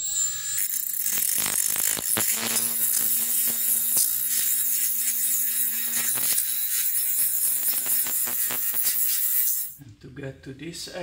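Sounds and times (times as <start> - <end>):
rotary tool grinding rust: 0.0 - 9.8.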